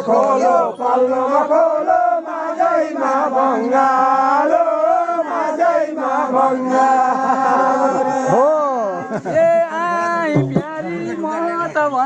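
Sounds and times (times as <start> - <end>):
voices singing together: 0.0 - 11.8.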